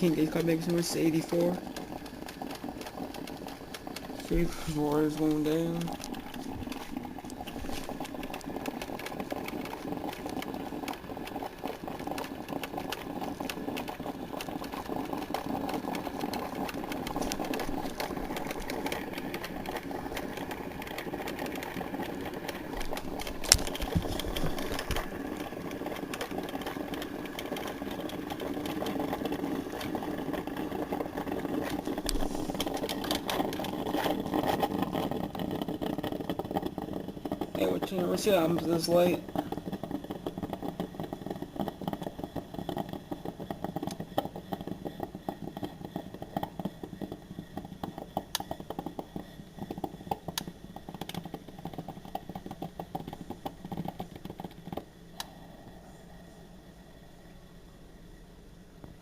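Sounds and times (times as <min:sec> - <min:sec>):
coffee maker sputtering and bubbling: 0:00.0 - 0:59.0.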